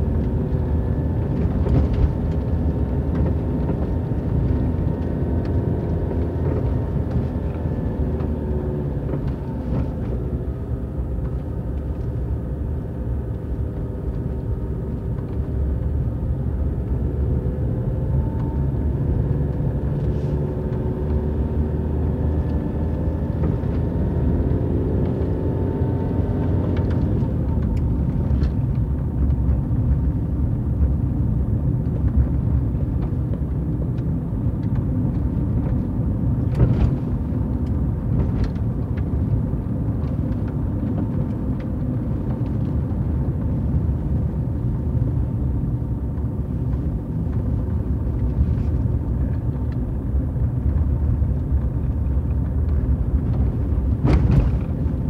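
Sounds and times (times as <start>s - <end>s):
car engine rumble: 0.0s - 55.0s
tyres on road: 0.0s - 55.0s.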